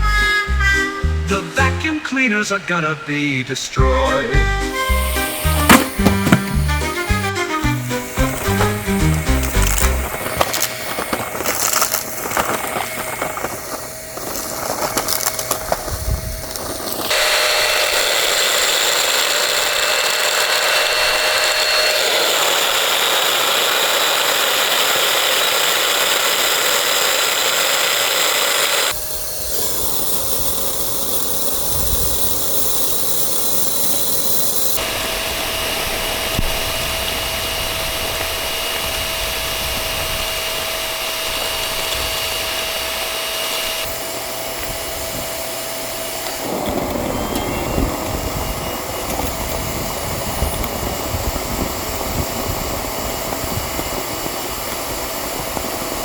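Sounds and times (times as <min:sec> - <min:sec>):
vacuum cleaner motor whining: 0:00.0 - 0:56.0.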